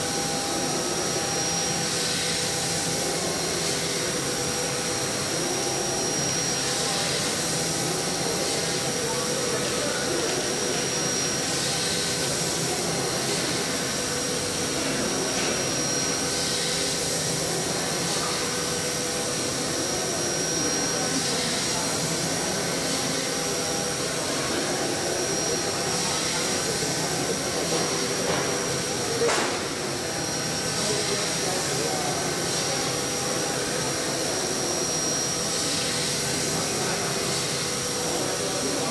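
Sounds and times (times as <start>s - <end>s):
hissing rush of cutting: 0.0s - 38.8s
milling machine whine: 0.0s - 38.9s.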